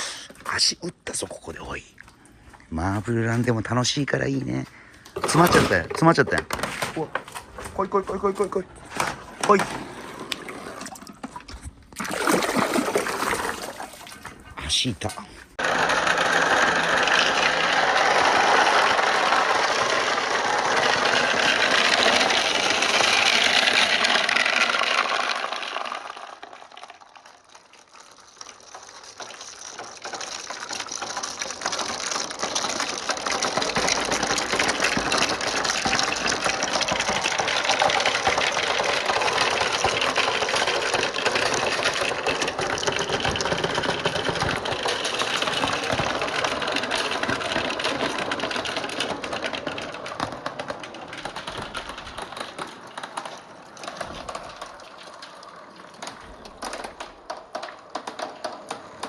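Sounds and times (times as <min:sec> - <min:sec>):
marbles rattling through pipes: 0:02.8 - 0:59.0.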